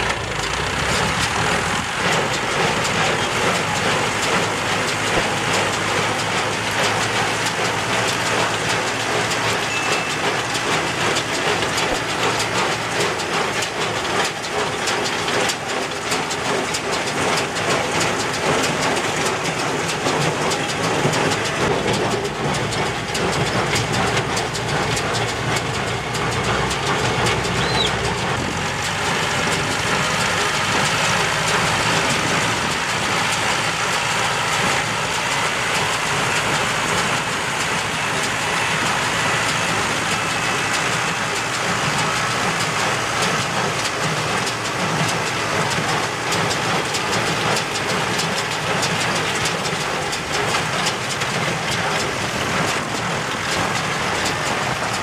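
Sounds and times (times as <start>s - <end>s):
baler mechanical clatter: 0.0s - 55.0s
tractor engine running: 0.0s - 55.0s.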